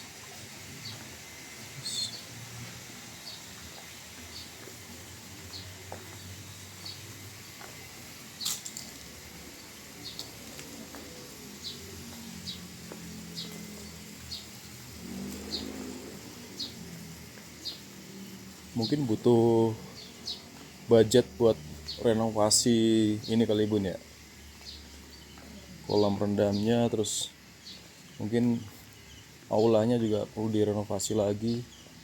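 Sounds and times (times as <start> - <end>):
bird chirping: 0.8 - 32.0.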